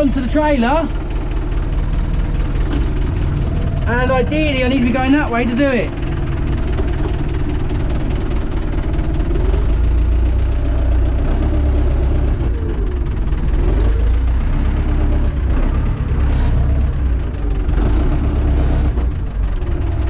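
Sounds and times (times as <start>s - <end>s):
tractor diesel engine chugging: 0.0s - 20.0s.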